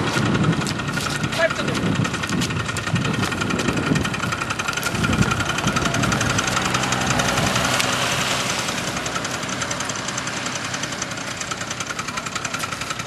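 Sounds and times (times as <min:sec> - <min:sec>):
moped engine idling: 0:00.0 - 0:13.0.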